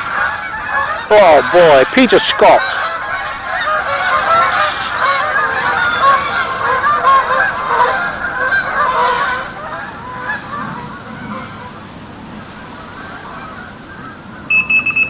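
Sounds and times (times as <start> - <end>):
flock of geese honking: 0.0 - 15.0.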